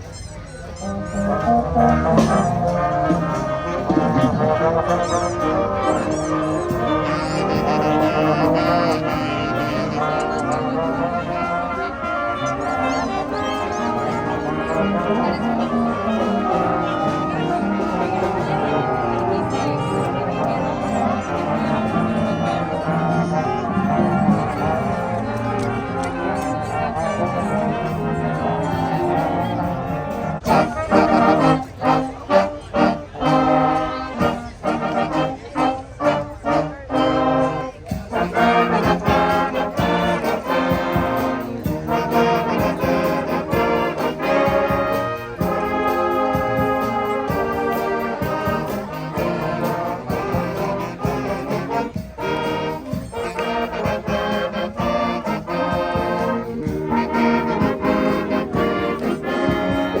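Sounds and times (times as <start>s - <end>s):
brass music: 0.0s - 60.0s.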